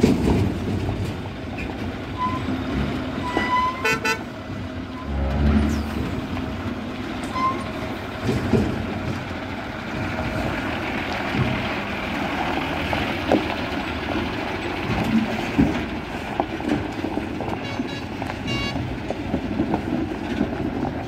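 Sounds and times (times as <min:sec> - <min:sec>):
diesel engine rumbling: 0:00.0 - 0:21.0
tyres crunching over gravel: 0:00.0 - 0:21.0.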